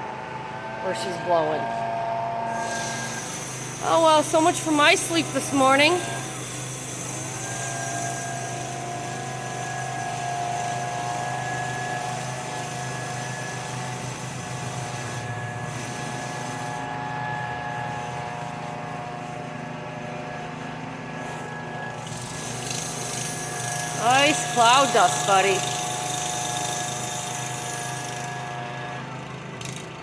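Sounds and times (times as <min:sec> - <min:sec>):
power blower engine whining: 0:00.0 - 0:30.0.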